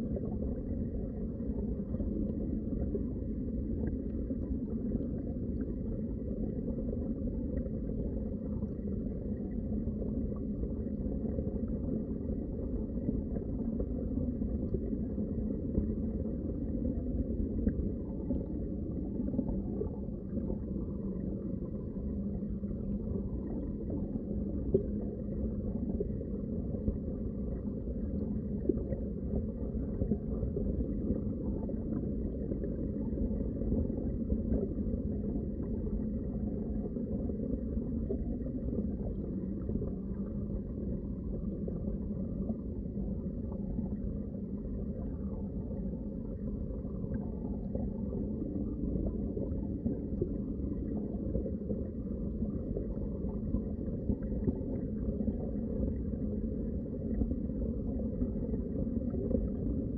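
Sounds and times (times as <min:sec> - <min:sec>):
underwater rumble of moving water: 0:00.0 - 0:59.9.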